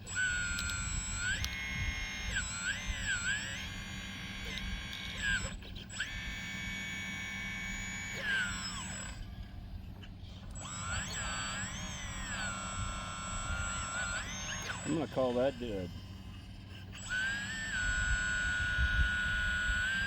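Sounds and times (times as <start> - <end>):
hydraulic pump motor whining: 0.0 - 20.0.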